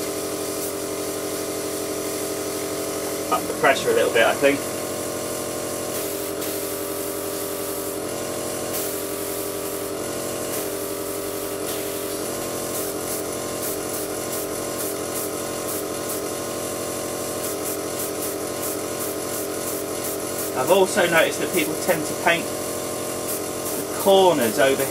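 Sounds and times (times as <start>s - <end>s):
air compressor humming: 0.0s - 24.9s
airbrush spraying hiss: 0.0s - 24.9s.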